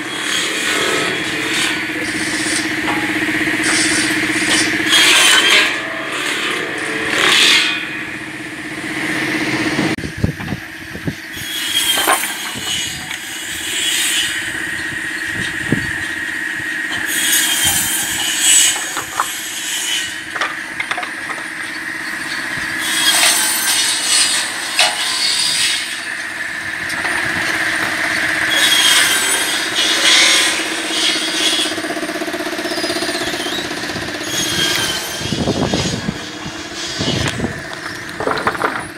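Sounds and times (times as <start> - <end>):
circular saw cutting wood: 0.0 - 10.0, 10.6 - 38.9
steady machine hum: 0.0 - 38.9.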